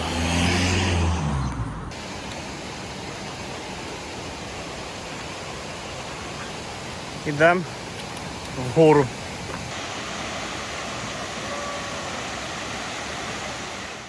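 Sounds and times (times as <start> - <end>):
river rushing: 1.9 - 14.0.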